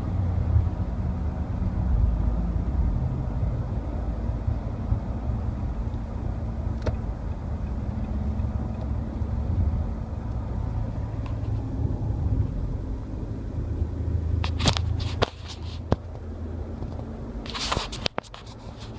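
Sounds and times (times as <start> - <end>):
low hum in car cruising: 0.0 - 18.9.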